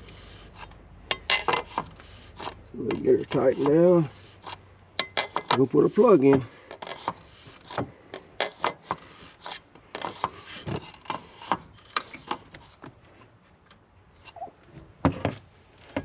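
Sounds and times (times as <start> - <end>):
metal clicks and scraping of tools: 0.0 - 14.5.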